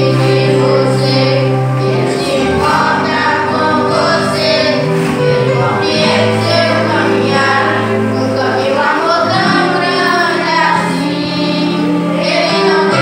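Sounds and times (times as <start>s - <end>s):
children singing praise song: 0.0s - 13.0s
instrumental accompaniment: 0.0s - 13.0s.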